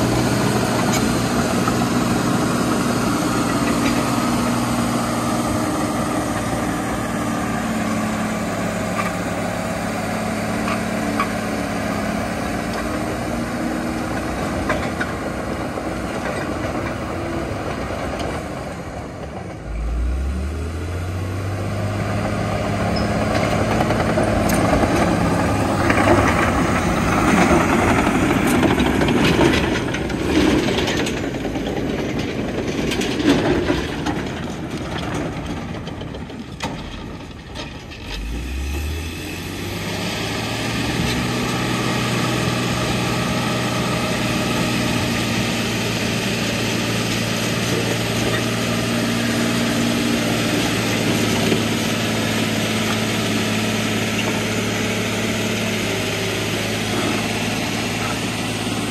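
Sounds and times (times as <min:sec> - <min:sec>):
bulldozer diesel engine: 0:00.0 - 0:58.9.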